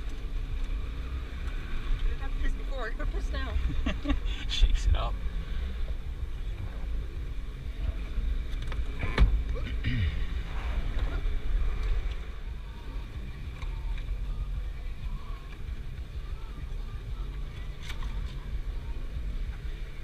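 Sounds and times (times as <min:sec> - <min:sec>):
engine and drivetrain rumble: 0:00.0 - 0:20.0.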